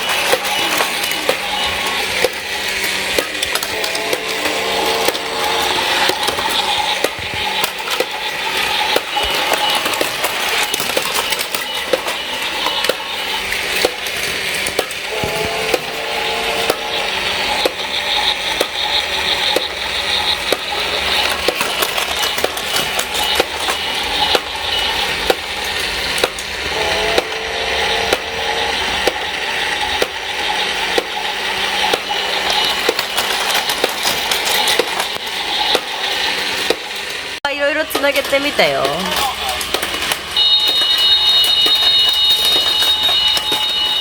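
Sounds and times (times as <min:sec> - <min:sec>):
toy train motor whirr: 0:00.0 - 0:44.0.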